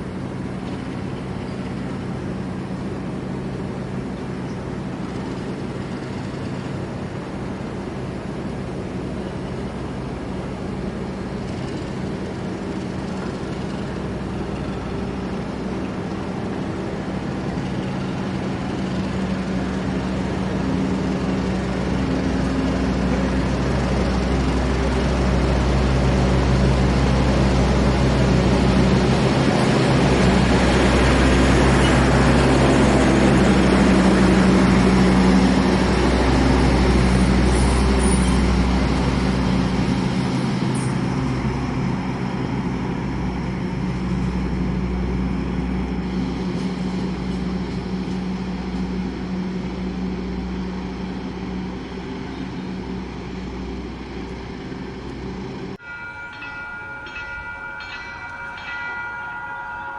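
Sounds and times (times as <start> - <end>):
diesel train engine humming: 0.0 - 59.9.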